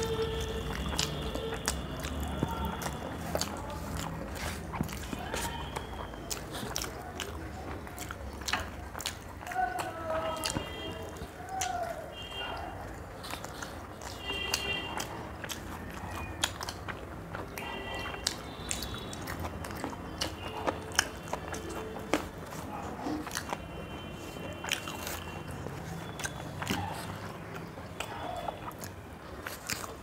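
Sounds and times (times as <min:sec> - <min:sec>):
wet mouth clicks and smacks: 0:00.0 - 0:12.0, 0:13.1 - 0:30.0
people chewing food: 0:00.0 - 0:30.0.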